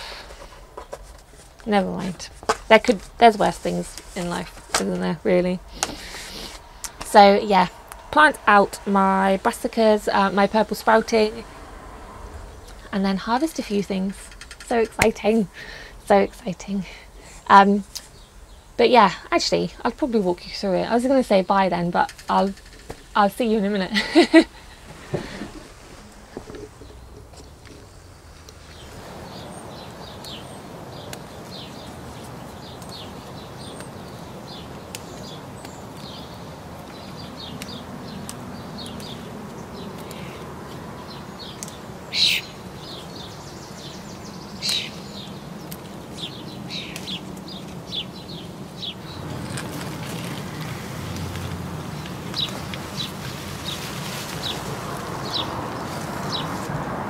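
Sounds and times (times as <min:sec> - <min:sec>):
small birds chirping: 0:00.0 - 0:56.7
outdoor background noise: 0:00.0 - 0:57.0.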